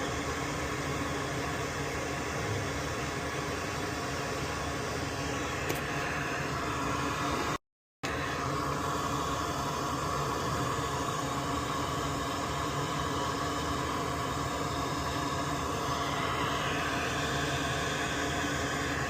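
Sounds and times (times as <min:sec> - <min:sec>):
small fan running: 0:00.0 - 0:19.0.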